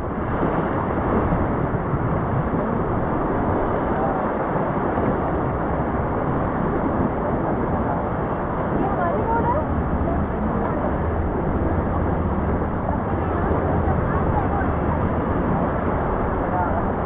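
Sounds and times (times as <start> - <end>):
whitewater rushing: 0.0 - 17.0
wind buffeting microphone: 0.0 - 17.0.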